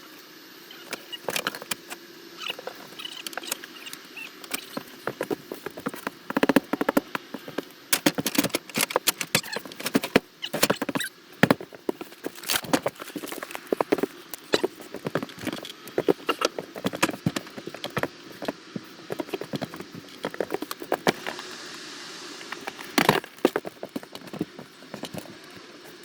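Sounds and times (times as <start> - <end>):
clicking tapping and rustling: 0.9 - 21.2, 23.0 - 25.6.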